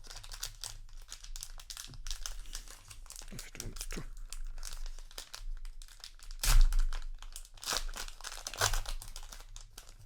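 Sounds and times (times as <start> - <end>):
wrapper crinkling and tearing: 0.0 - 10.0.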